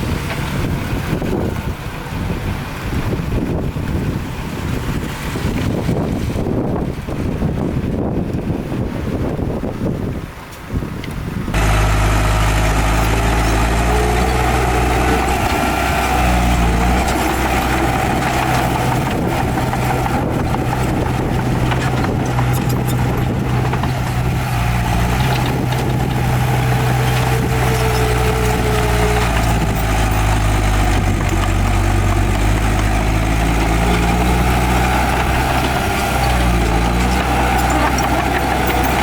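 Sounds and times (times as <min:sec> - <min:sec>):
heavy diesel engine running: 0:00.0 - 0:08.0, 0:11.4 - 0:39.0.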